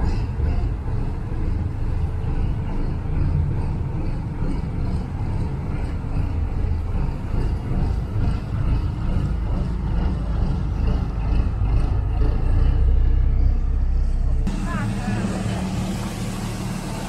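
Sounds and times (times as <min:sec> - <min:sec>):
boat diesel engine rumbling: 0:00.0 - 0:17.0.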